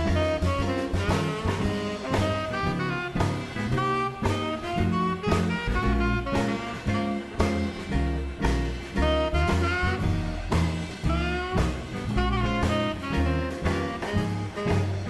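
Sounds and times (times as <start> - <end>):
swing jazz band playing: 0.0 - 15.0.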